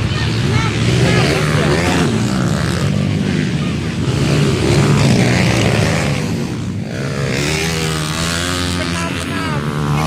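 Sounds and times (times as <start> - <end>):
motocross bike engine running: 0.0 - 10.0.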